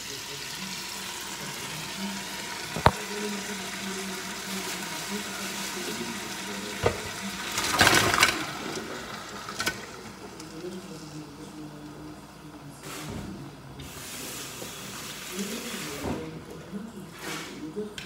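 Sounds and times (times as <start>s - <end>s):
pot sizzling: 0.0s - 12.8s, 13.6s - 16.0s.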